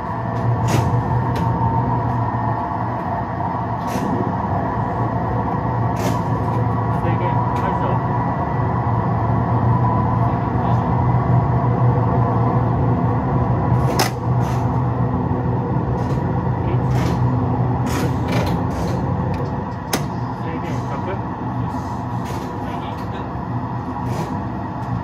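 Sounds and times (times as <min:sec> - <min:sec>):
electric train low hum: 0:00.0 - 0:25.0.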